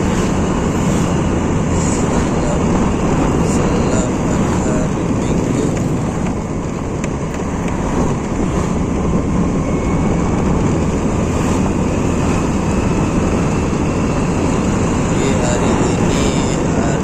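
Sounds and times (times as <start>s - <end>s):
scooter engine running: 0.0s - 17.0s
wind buffeting microphone: 0.0s - 17.0s.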